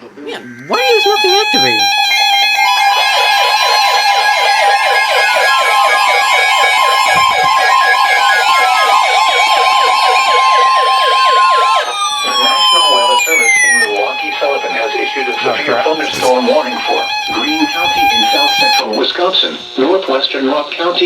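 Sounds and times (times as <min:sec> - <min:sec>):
steady alarm tone: 0:00.4 - 0:21.0
warbling siren-like alarm: 0:00.6 - 0:20.5
slow falling tones: 0:00.7 - 0:19.9.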